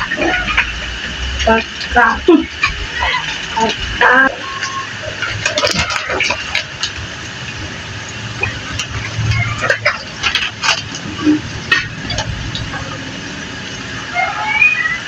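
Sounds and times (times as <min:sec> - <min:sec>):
low hum: 0:00.0 - 0:14.3.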